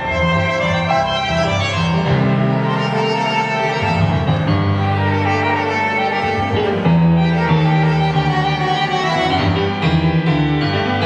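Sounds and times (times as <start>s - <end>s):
tango ensemble playing: 0.0s - 11.0s
violin melody in long notes: 0.0s - 11.0s.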